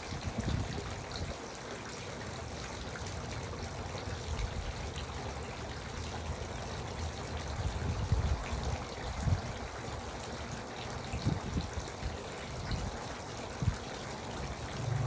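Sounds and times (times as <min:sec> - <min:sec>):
fountain water trickling and splashing: 0:00.0 - 0:15.0.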